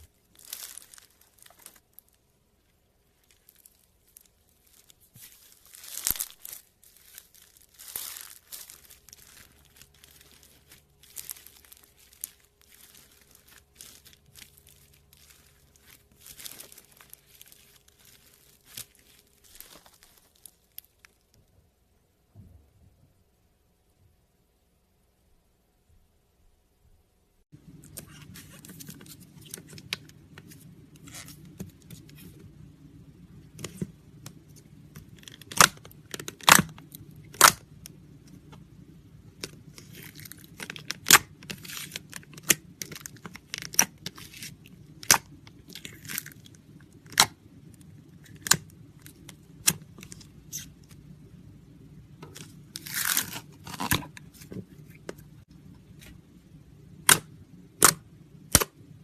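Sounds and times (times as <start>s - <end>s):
slime crackling and popping: 0.0s - 2.3s, 3.1s - 21.4s, 27.7s - 58.7s.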